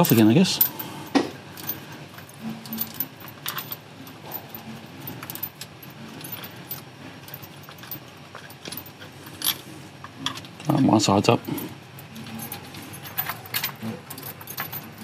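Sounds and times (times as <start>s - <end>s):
metallic clicks and clinks: 0.0s - 0.8s, 1.6s - 15.0s.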